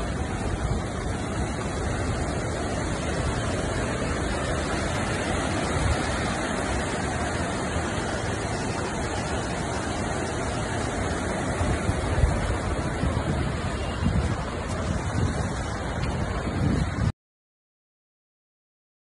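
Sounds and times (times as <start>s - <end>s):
river floodwater rushing: 0.0s - 17.1s.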